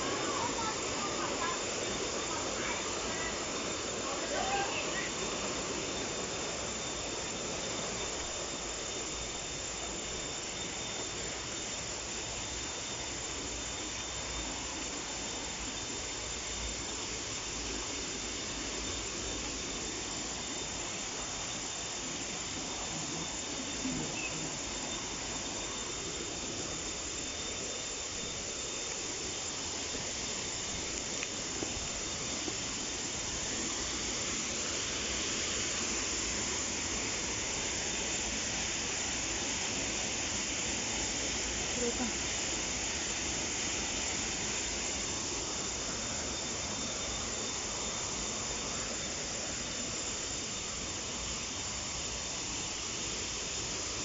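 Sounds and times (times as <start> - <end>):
thin high tone: 0.0 - 52.2
waterfall rushing hiss: 0.0 - 54.0.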